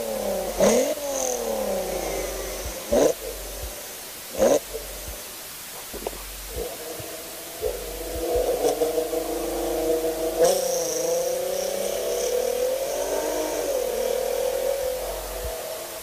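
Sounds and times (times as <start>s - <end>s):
car engine revving lightly: 0.0s - 16.0s
faint high whine: 0.0s - 16.0s.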